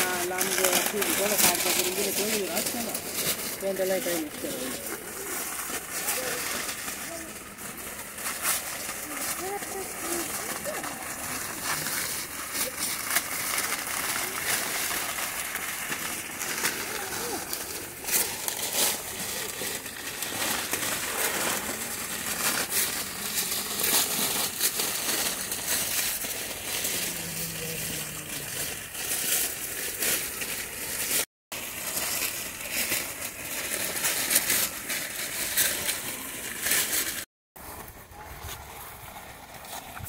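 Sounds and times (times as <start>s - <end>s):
paper crinkling and tearing: 0.0s - 40.0s.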